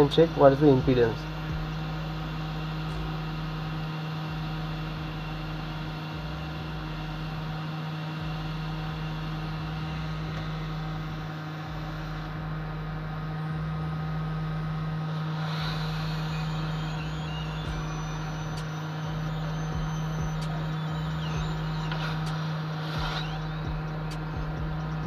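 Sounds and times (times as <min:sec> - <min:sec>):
hot-air station blowing and humming: 0:00.0 - 0:25.0.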